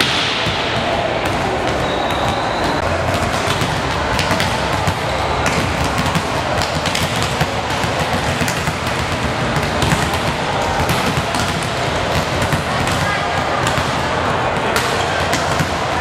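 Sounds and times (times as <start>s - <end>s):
sports hall noise: 0.0s - 16.0s
volleyballs hit and bouncing: 0.0s - 16.0s.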